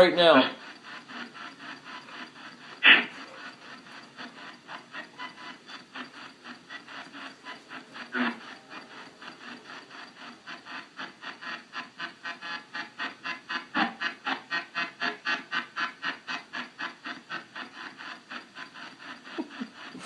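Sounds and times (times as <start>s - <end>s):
chopped radio static hiss: 0.0s - 20.0s.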